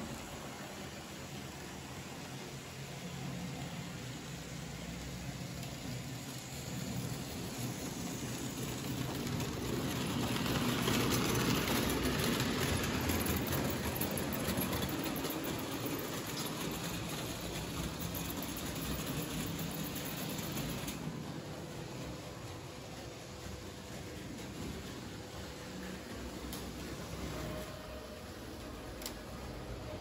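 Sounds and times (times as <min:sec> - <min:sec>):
model train wheels rattling on rails: 0:00.0 - 0:30.0.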